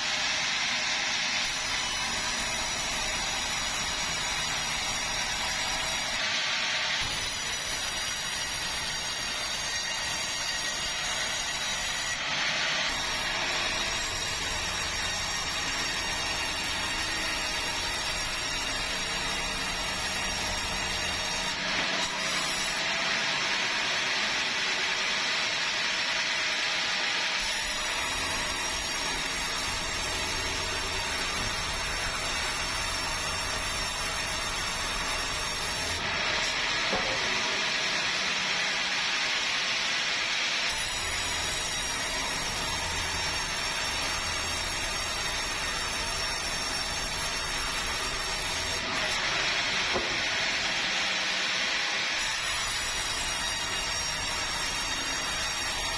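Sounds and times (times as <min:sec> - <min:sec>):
saw hissing through wood: 0:00.0 - 0:55.9.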